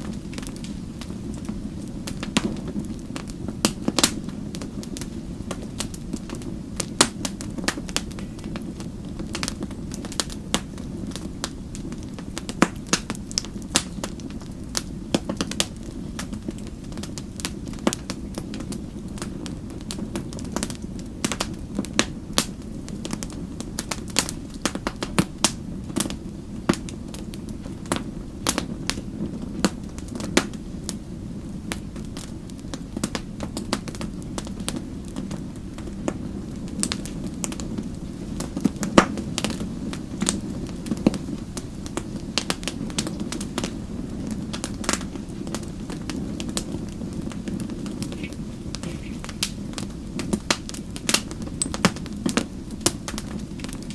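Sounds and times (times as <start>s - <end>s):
fire crackles and pops: 0.0s - 53.9s
wood fire rumble: 0.0s - 53.9s.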